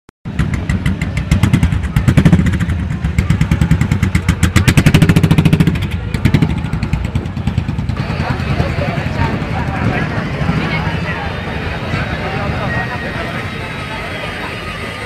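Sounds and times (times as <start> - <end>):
motorcycle engine revving: 0.3 - 13.6.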